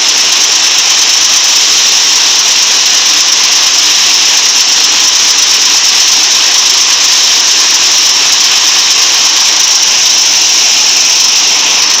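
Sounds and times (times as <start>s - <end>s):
threshing machine rushing hiss: 0.0s - 12.0s.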